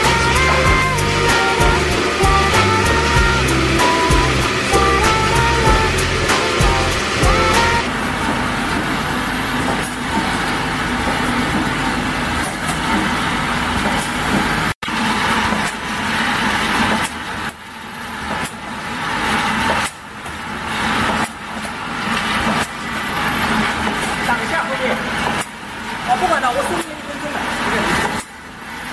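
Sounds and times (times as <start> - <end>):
bottling machine running: 0.0 - 28.9.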